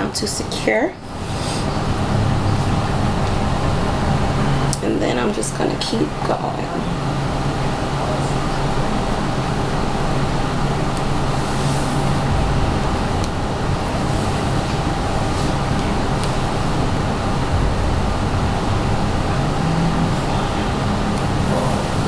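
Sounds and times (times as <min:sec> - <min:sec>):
machine humming and hissing: 0:01.0 - 0:22.0.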